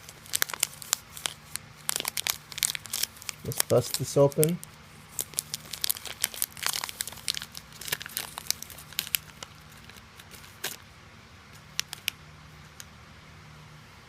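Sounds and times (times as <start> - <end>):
plastic wrapper crinkling: 0.0 - 10.8, 11.6 - 12.2.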